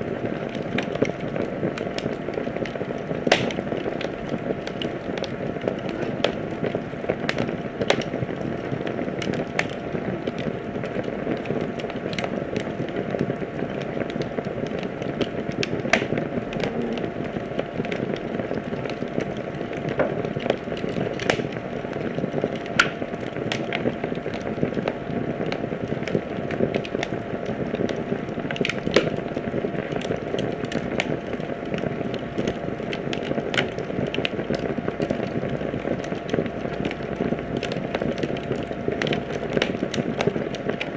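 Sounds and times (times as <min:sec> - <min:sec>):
fire crackling: 0:00.0 - 0:40.9
fire popping and snapping: 0:00.0 - 0:40.9.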